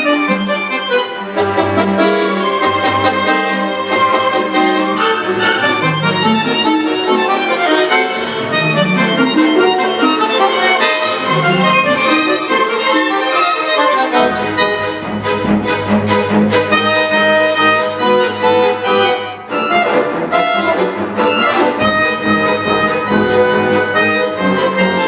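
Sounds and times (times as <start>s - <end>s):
solo accordion playing: 0.0s - 25.0s.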